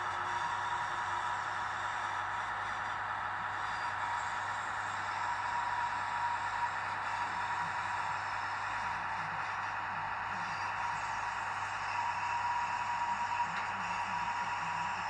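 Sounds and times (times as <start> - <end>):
model railcar whirring hum: 0.0 - 15.0.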